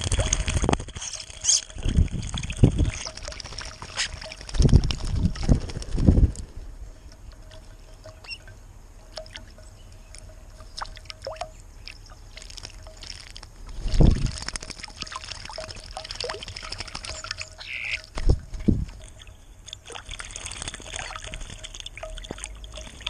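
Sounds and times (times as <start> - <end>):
small drips and taps: 0.0 - 5.8, 7.0 - 23.0
birds splashing in water: 0.0 - 23.0.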